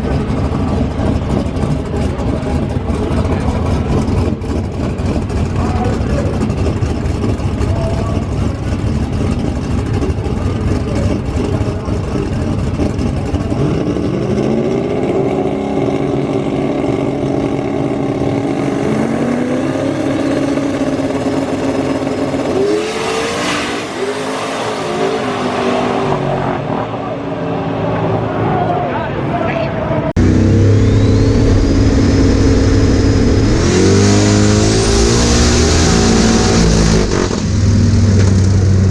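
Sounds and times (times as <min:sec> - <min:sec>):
race car engine running: 0:00.0 - 0:28.1, 0:30.2 - 0:38.9.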